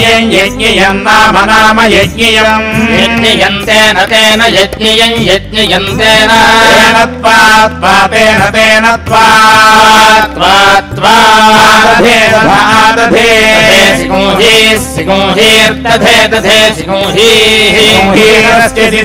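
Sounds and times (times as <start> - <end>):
person chanting a devotional song: 0.0 - 19.0.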